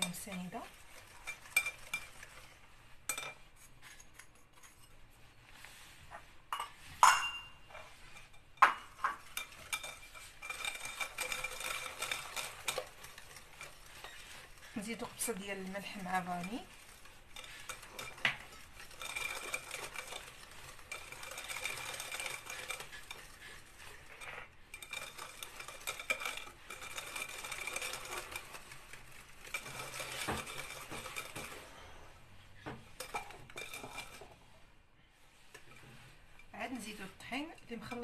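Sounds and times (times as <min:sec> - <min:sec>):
whisk rattling against glass bowl: 0:00.0 - 0:05.2, 0:06.5 - 0:34.7, 0:35.4 - 0:38.0.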